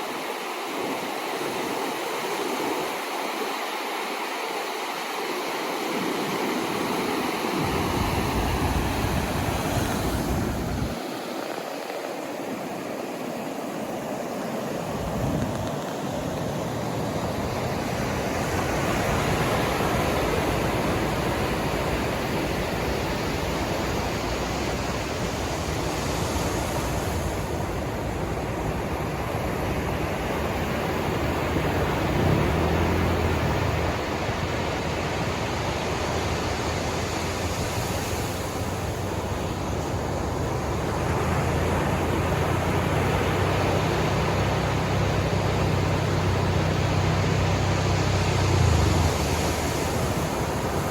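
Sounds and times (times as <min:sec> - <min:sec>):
ocean surf washing in: 0:00.0 - 0:50.9.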